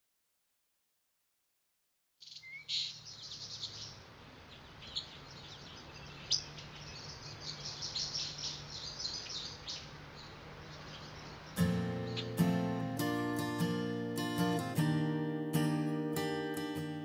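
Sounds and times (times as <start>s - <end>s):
small birds chirping: 2.2s - 17.0s.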